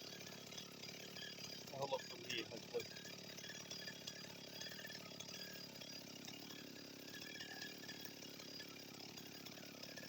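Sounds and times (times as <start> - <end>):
chainsaw running: 0.0 - 10.0.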